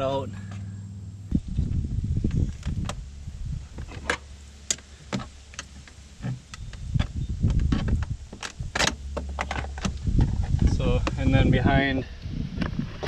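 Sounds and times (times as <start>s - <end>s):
low rumble of handling noise: 0.0s - 13.0s.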